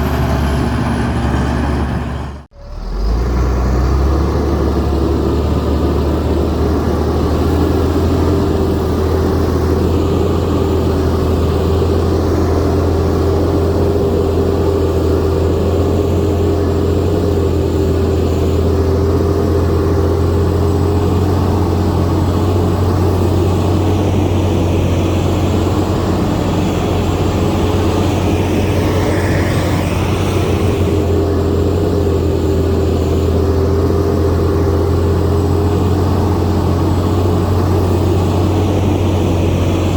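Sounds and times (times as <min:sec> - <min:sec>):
bulldozer diesel engine: 0:00.0 - 0:39.9
steady whine: 0:05.3 - 0:39.9.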